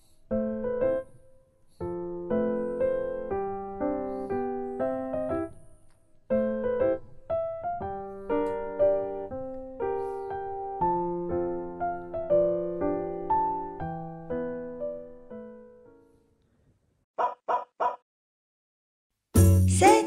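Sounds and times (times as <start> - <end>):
gentle piano melody: 0.0 - 16.4.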